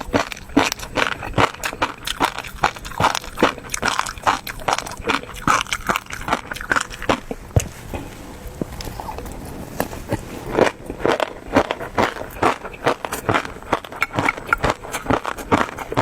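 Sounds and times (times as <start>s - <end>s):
chewing smacks and clicks: 0.0s - 7.7s, 8.8s - 16.0s.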